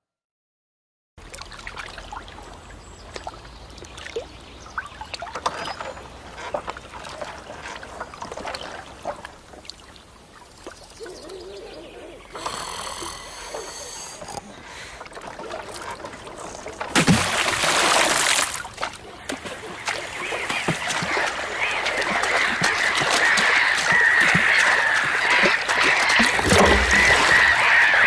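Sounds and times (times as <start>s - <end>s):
water lapping and dripping: 1.2s - 28.0s.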